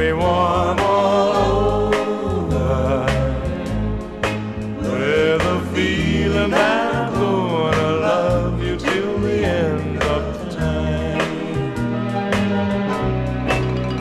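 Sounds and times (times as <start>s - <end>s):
pop song from vinyl record: 0.0s - 13.8s.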